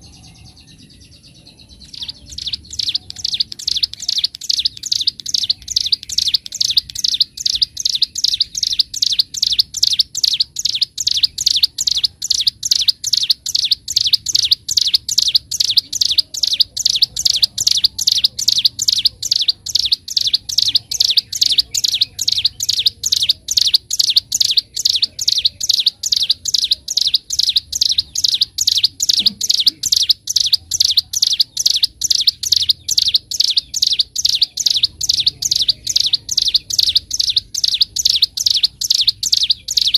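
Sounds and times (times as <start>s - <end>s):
bird singing sharp chipping notes: 0.0s - 39.9s.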